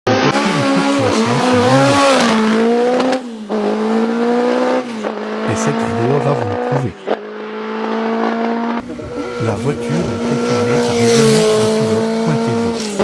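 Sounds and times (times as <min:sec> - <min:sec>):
racing car engine at high revs: 0:00.1 - 0:13.0.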